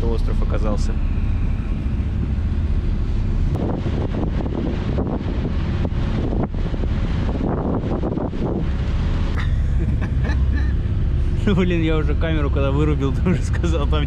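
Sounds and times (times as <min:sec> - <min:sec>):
low ship rumble: 0:00.0 - 0:14.0
wind buffeting microphone: 0:00.0 - 0:14.0.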